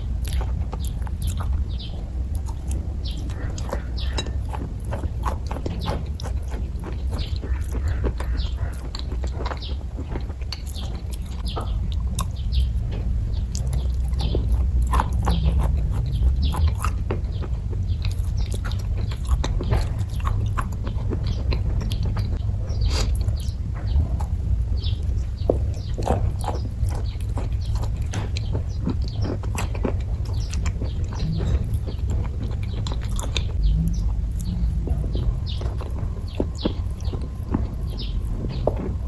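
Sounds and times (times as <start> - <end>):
chewing mouth clicks and smacks: 0.0 - 39.0
low rumble: 0.0 - 39.0.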